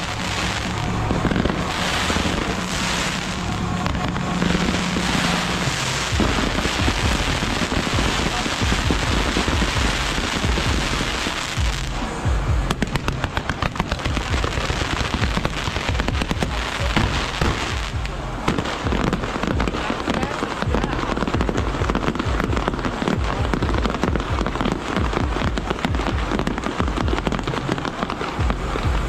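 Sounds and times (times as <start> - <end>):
fireworks crackling: 0.0 - 29.0
rapid sharp pops: 0.0 - 29.0.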